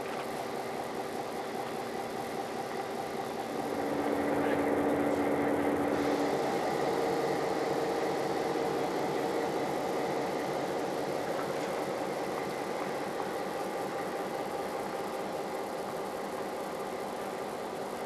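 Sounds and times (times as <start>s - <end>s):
diesel locomotive engine idling: 0.2s - 18.0s.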